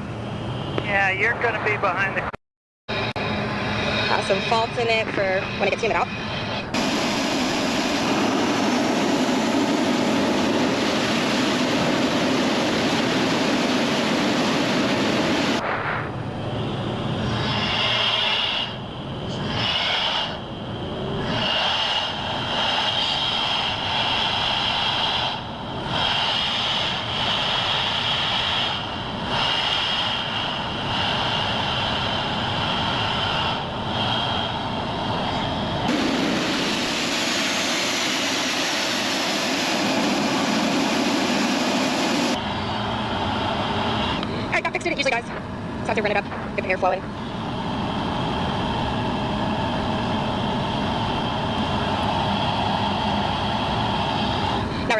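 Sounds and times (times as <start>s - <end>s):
jet engine high whine: 0.0s - 54.9s
jet engine rushing noise: 0.0s - 54.9s.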